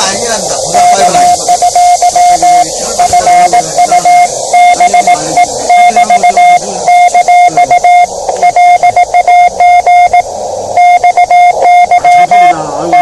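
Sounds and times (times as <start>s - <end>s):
morse code beeps: 0.0s - 13.0s
radio receiver hiss: 0.0s - 13.0s.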